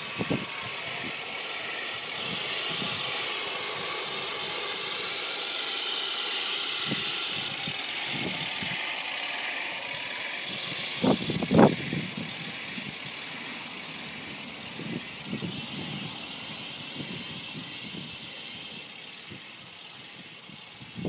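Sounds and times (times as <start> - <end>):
toy tank running gear whining: 0.0 - 21.0.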